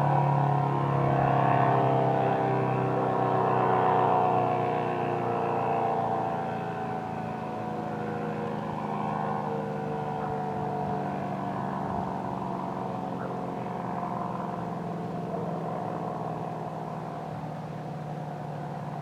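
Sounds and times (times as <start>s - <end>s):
warning siren steady tone: 0.0s - 19.0s.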